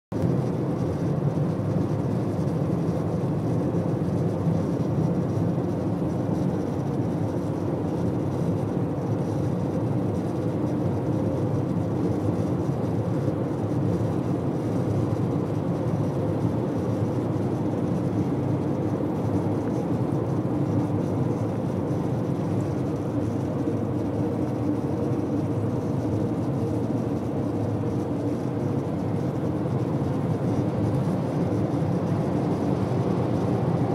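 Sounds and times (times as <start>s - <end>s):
road and tyre noise: 0.1s - 33.9s.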